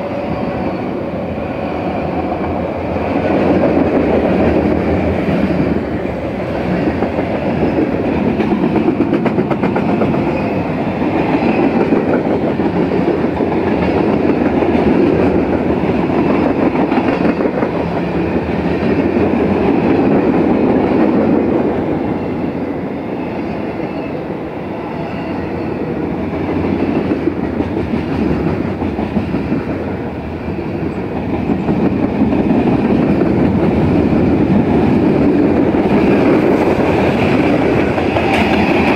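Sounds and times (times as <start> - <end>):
train wheels rumbling on rail: 0.0 - 38.9
wheels clickety-clack on rail joints: 2.1 - 21.7, 25.5 - 38.9.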